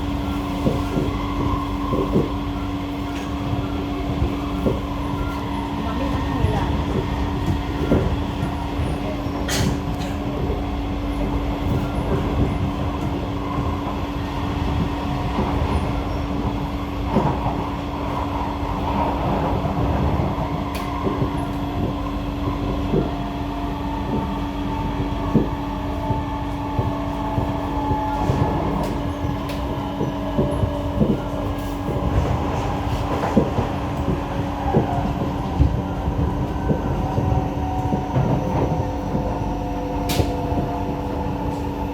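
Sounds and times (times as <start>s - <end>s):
metro train rumble and hum: 0.0s - 41.9s
track clacks and clicks: 0.0s - 41.9s.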